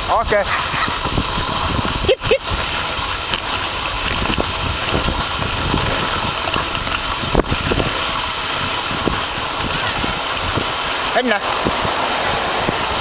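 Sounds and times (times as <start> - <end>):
dog sled hissing over snow: 0.0 - 13.0.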